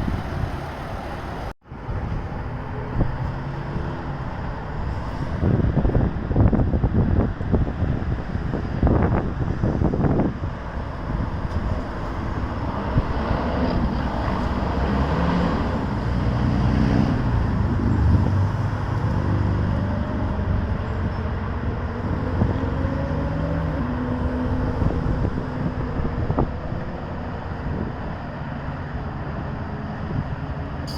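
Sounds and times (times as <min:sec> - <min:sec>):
road traffic passing: 0:00.0 - 0:30.9.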